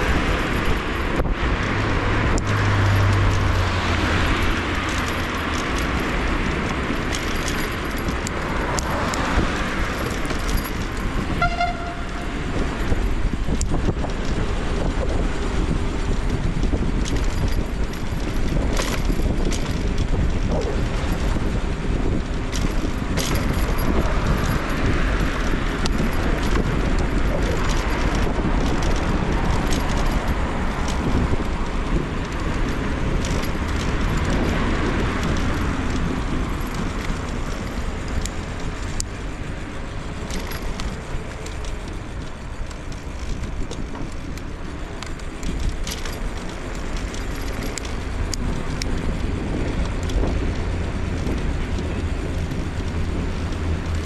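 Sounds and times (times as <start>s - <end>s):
clicks and rattles from bumps: 0.0s - 54.0s
traffic noise: 0.0s - 54.0s
wind and road rumble: 0.0s - 54.0s.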